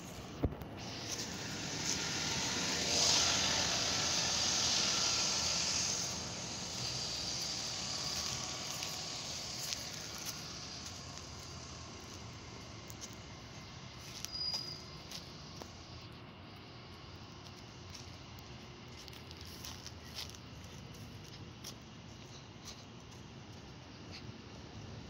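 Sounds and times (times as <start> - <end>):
train running hiss: 0.0 - 23.3.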